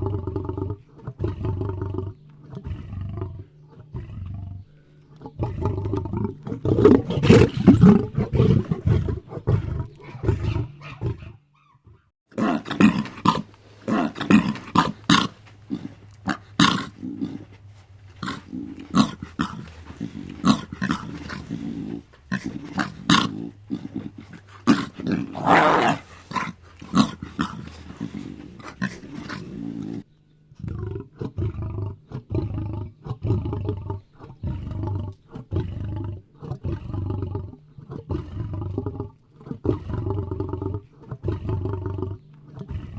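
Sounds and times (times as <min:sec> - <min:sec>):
lion roaring and grunting: 0:00.0 - 0:42.9.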